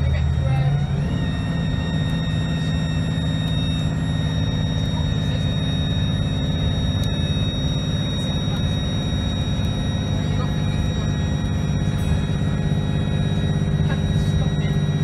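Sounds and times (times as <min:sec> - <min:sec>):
bus diesel engine drone: 0:00.0 - 0:15.0
turbo whine: 0:00.0 - 0:15.0.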